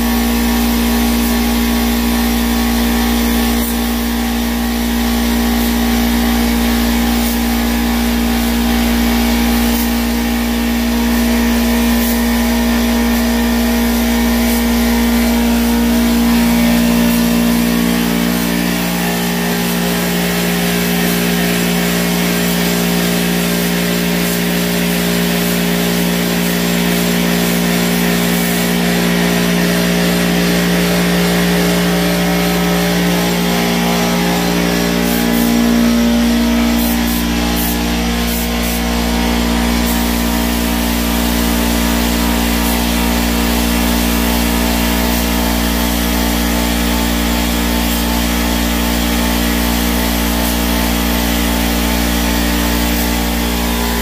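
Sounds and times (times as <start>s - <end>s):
air compressor motor running: 0.0s - 54.0s
spray gun hissing: 0.0s - 54.0s.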